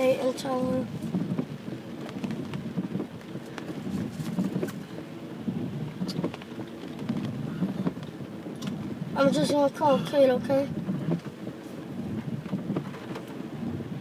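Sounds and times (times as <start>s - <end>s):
low rumbling inside a car: 0.0s - 14.0s.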